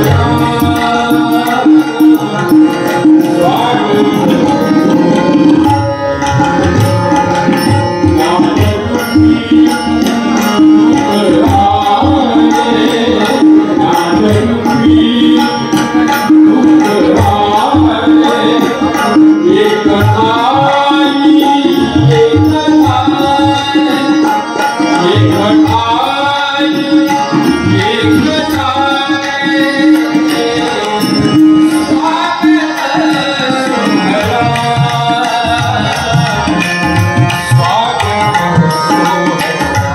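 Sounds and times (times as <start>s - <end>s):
person singing: 0.0s - 39.9s
tabla beat: 0.0s - 39.9s.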